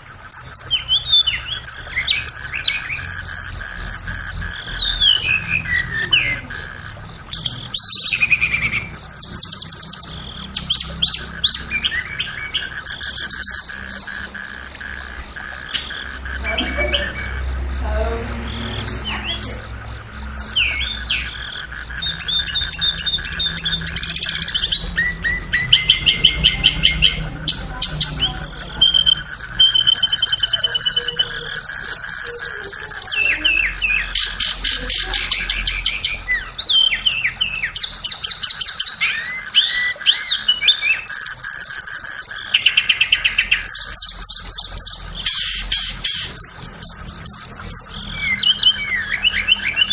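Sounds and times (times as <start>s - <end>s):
bird chirps and rapid trills: 0.0s - 49.9s
steady background hum: 0.0s - 49.9s.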